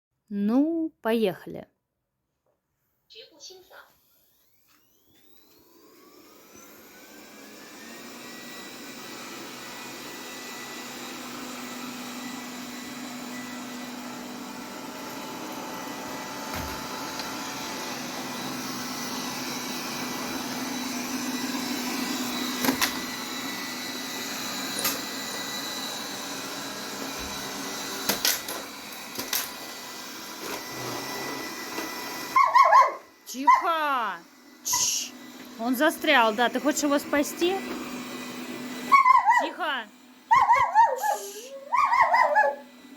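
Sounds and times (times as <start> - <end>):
vacuum cleaner motor whine: 3.9 - 42.9.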